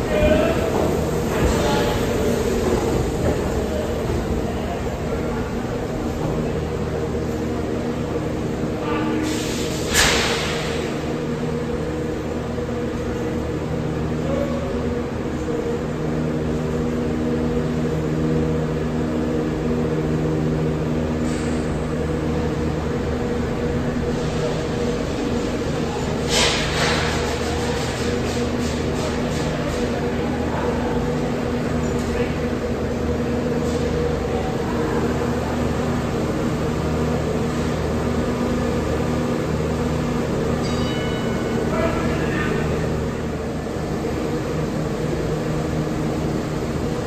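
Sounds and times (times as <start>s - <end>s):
train equipment humming: 0.0s - 47.0s.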